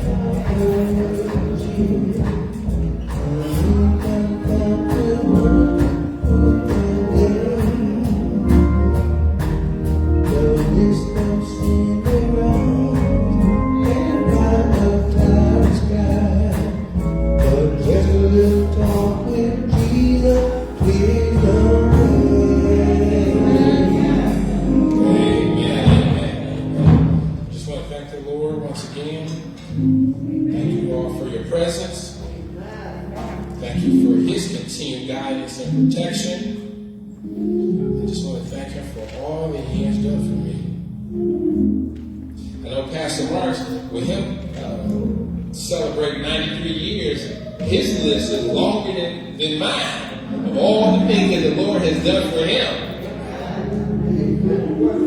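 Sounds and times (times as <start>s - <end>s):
gospel singing with instruments: 0.0s - 55.0s.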